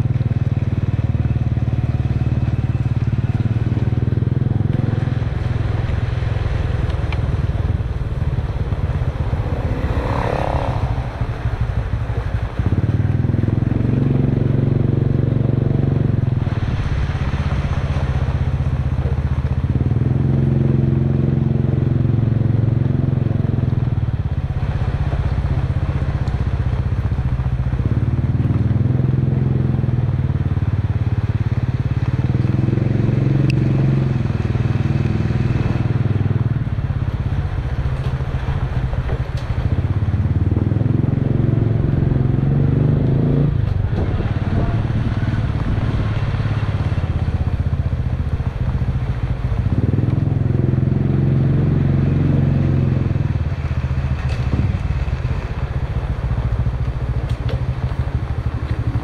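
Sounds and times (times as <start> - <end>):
motorcycle engine running: 0.0 - 59.0
wind and road noise hiss: 0.0 - 59.0.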